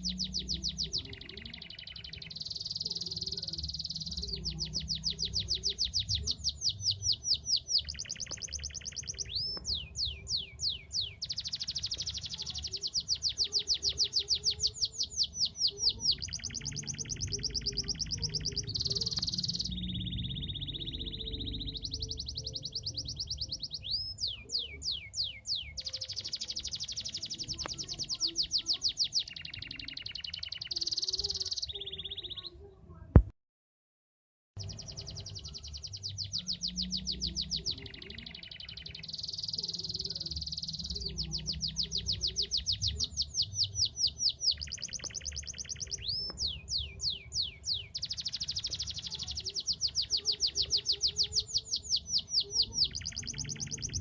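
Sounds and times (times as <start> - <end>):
canary singing: 0.0 - 33.1, 34.6 - 54.0.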